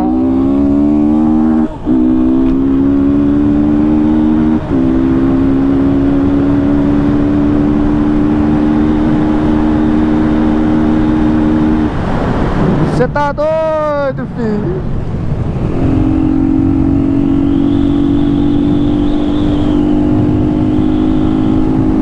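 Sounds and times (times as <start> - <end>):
motorcycle engine accelerating: 0.0 - 13.0, 15.0 - 22.0.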